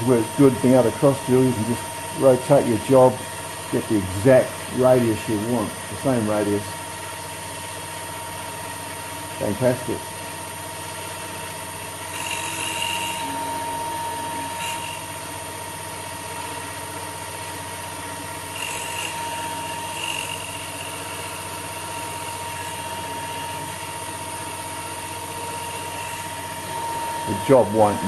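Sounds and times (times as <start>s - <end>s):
electric motor whine: 0.0s - 28.0s.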